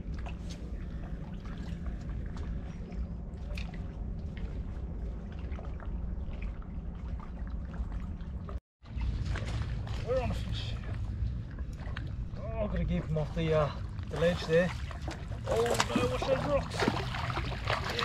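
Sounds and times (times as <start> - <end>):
small waves lapping: 0.0 - 18.0
steady low rumble: 0.0 - 18.0.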